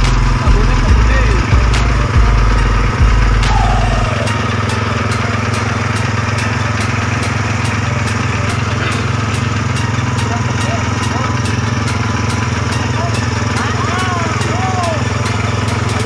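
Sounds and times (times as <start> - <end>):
heavy low rumble: 0.0 - 13.5
small engine running: 0.0 - 16.0.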